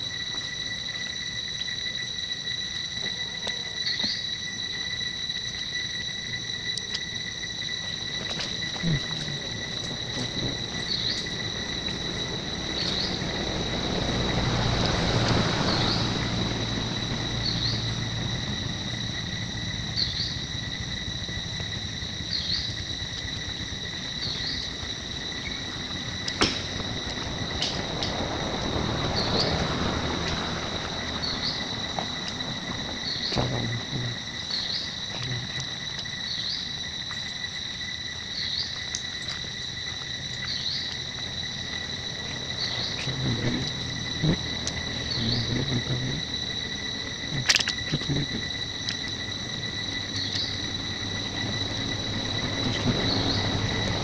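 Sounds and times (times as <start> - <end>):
insect chirp: 0.0 - 54.0
insects droning: 0.0 - 54.0.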